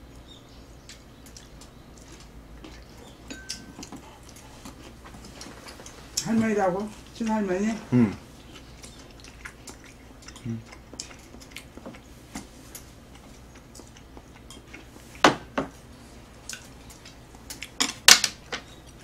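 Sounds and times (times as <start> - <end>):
soft chewing: 0.0 - 19.0.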